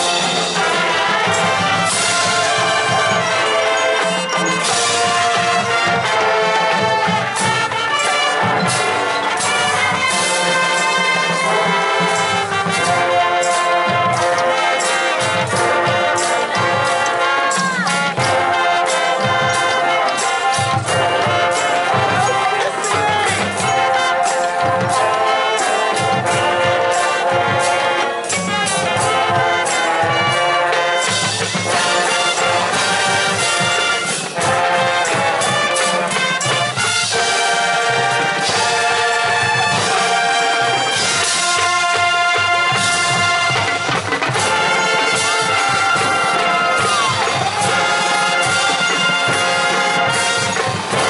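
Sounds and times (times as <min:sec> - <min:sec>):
marching band brass: 0:00.0 - 0:51.0
sharp percussion hits: 0:00.0 - 0:51.0.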